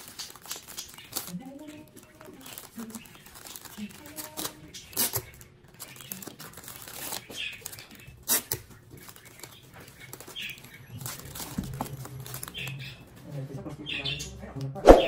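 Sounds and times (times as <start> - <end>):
sharp paper crackle: 0.0 - 13.0
wrapping paper rustling: 0.0 - 13.2.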